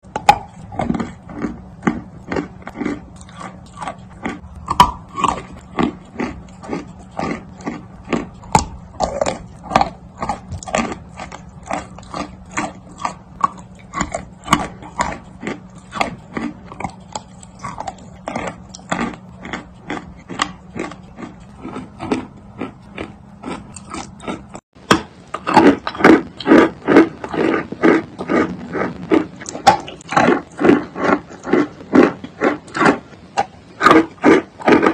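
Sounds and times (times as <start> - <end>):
chewing chalk crunches: 0.0 - 34.9
faint steady hum: 0.0 - 34.9.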